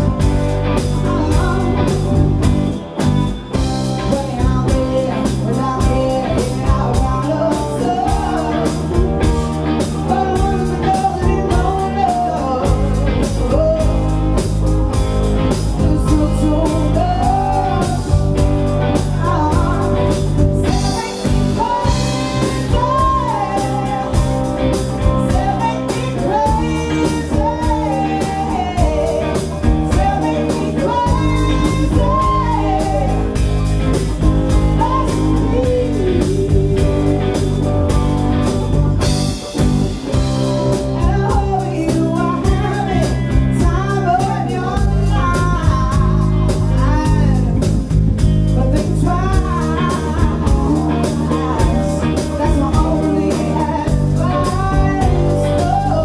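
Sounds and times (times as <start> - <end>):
live blues band playing: 0.0 - 56.0
woman singing: 0.0 - 56.0.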